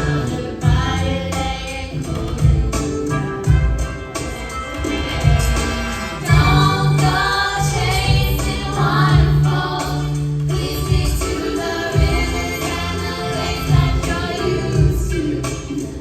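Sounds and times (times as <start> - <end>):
steady bass line: 0.0 - 16.0
voices singing: 0.0 - 16.0.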